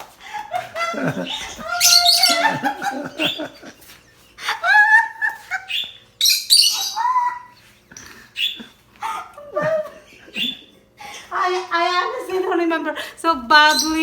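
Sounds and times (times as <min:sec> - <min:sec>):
birds chirping and calling: 0:00.3 - 0:12.4, 0:13.4 - 0:14.0.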